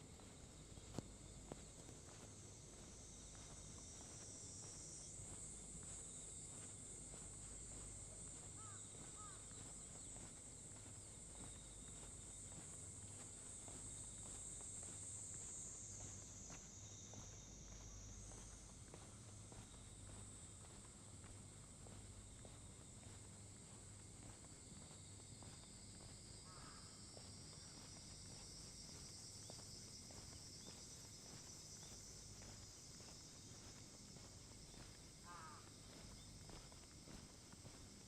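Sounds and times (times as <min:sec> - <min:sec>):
crickets chirping: 0:00.0 - 0:38.0
faint footsteps: 0:00.0 - 0:38.0.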